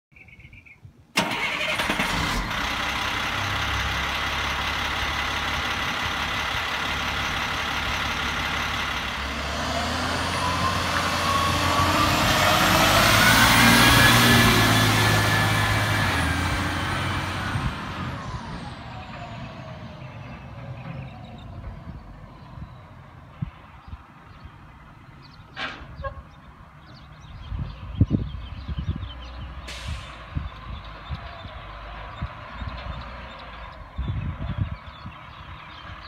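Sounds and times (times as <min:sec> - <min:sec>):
diesel truck engine running: 0:01.2 - 0:36.0
truck accelerating with whine: 0:01.2 - 0:36.0.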